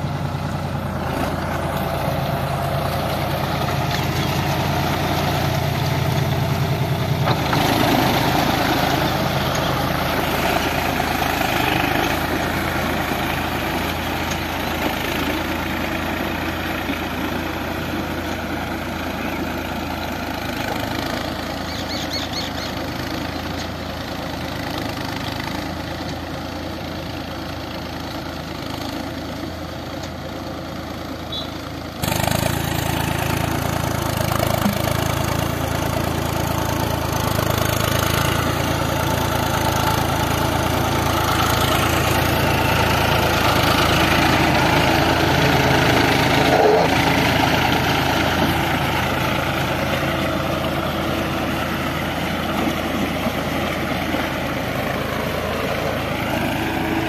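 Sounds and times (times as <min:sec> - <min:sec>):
wheels churning through mud: 0:00.0 - 0:23.4, 0:32.0 - 0:57.0
tractor diesel engine under load: 0:00.0 - 0:57.0.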